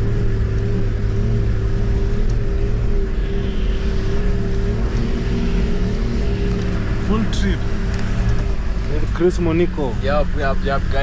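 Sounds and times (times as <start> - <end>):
car engine hum: 0.0 - 11.0
low road rumble: 0.0 - 11.0.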